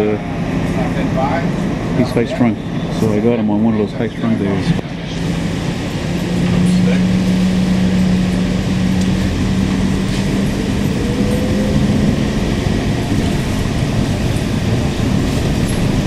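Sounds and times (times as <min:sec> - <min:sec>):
bus rumbling: 0:00.0 - 0:16.0.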